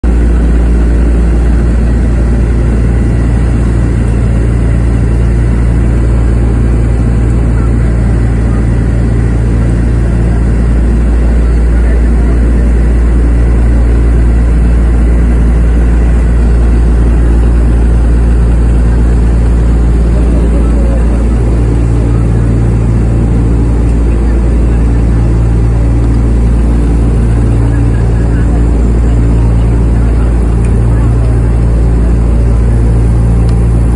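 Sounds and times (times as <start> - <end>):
piston engines droning: 0.0 - 33.9.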